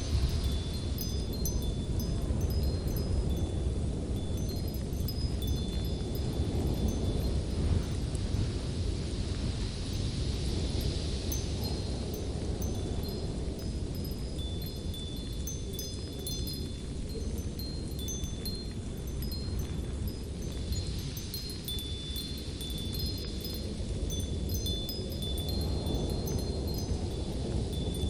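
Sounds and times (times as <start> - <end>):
chimes tinkling: 0.0 - 7.7, 11.4 - 28.0
low wind: 0.0 - 28.0.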